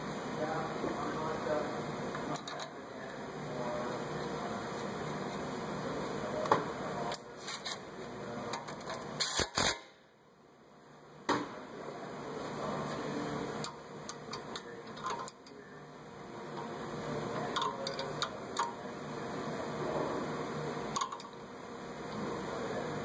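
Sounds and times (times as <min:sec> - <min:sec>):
workshop hum: 0:00.0 - 0:23.0.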